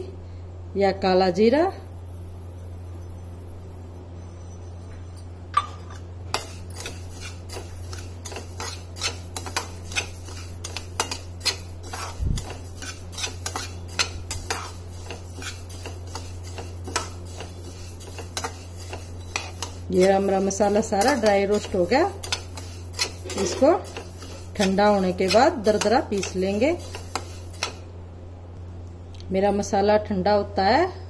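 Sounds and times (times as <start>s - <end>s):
metal spatula scraping seeds in pan: 1.9s - 5.3s, 5.9s - 27.9s.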